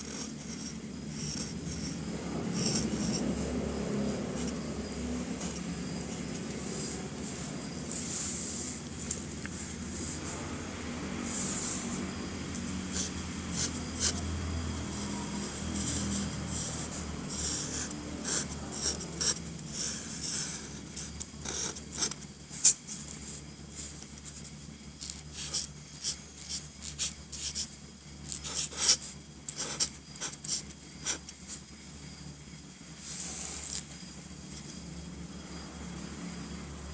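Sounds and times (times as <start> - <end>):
felt-tip marker drawing on paper: 0.0 - 10.5, 11.2 - 31.6.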